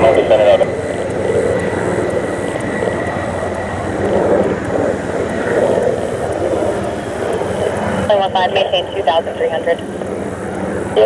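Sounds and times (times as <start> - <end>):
military aircraft engines running: 0.0 - 11.0.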